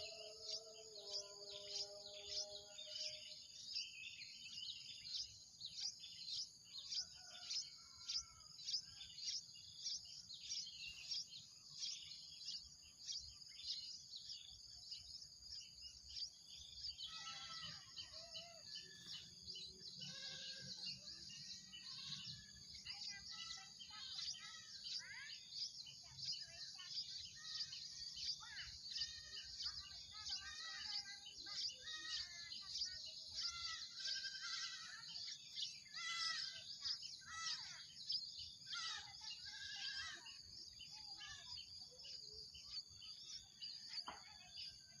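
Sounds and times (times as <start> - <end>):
lower bird chirps and calls: 0.0 - 45.0.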